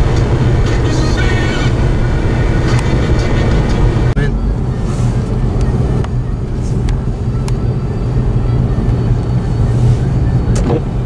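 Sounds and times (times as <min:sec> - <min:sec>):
vehicles on snowy road: 0:00.0 - 0:11.0.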